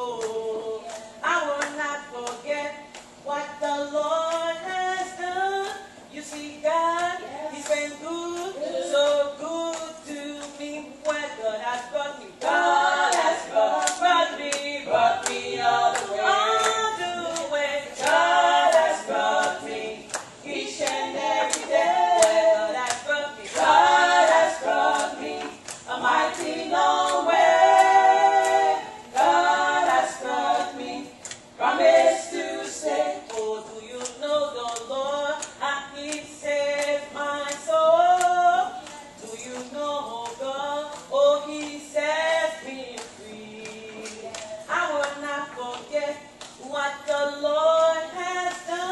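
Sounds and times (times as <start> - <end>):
women singing into microphones: 0.0 - 48.9
sharp handclaps: 0.1 - 3.1, 5.6 - 31.4, 33.3 - 41.8, 42.4 - 47.2.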